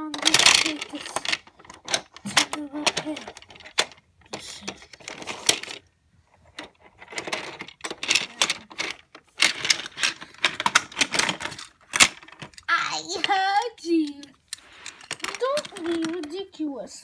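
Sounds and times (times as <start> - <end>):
metal toy trains clattering: 0.0 - 5.8, 6.4 - 16.9.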